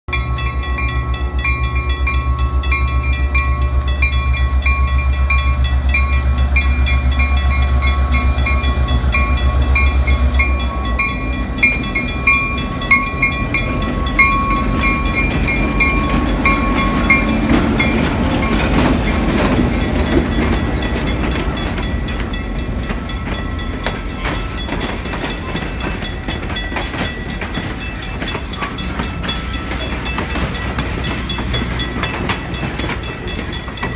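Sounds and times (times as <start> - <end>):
train cars rattling on track: 0.1 - 33.9
train engine throb: 0.1 - 33.9.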